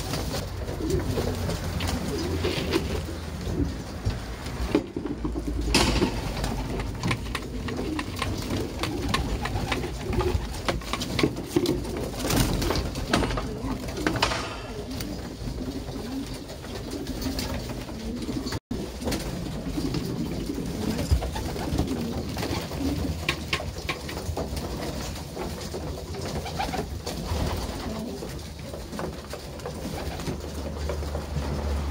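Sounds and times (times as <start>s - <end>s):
pigeons cooing: 0.0s - 31.9s.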